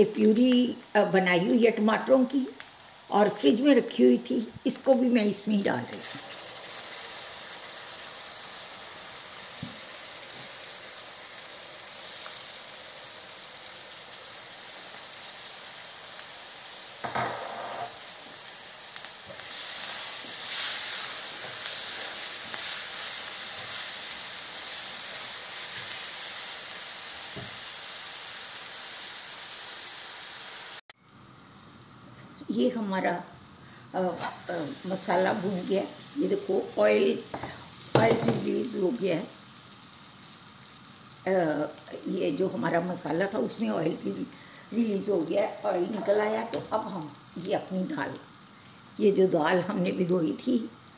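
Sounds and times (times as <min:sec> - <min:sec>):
masala sizzling in oil: 0:00.0 - 0:50.9.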